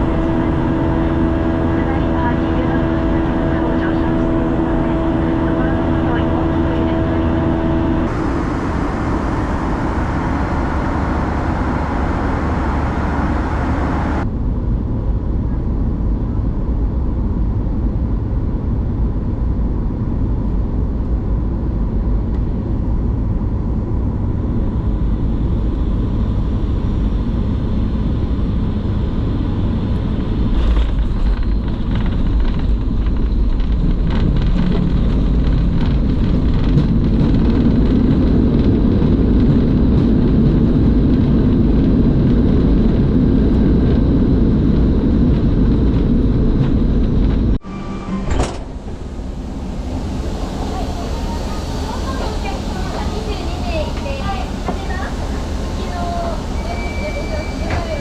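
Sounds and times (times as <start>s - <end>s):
airliner rumble: 0.0s - 58.0s.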